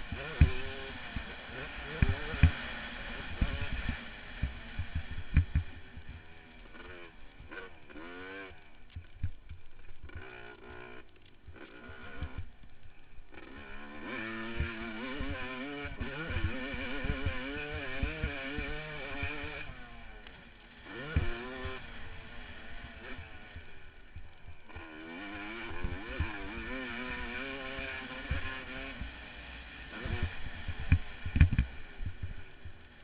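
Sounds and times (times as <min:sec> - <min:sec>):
motocross engine revving: 0:00.0 - 0:33.0.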